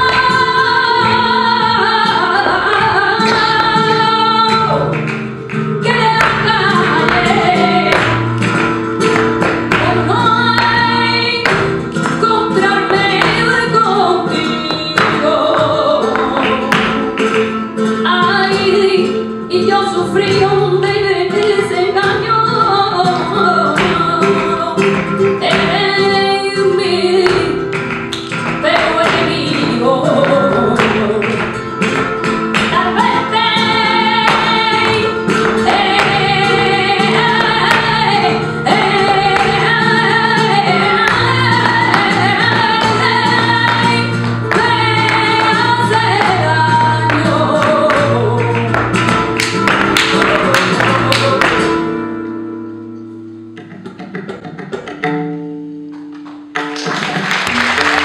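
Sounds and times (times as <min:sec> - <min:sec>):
woman singing: 0:00.0 - 0:52.1
flamenco guitar: 0:00.0 - 0:58.0.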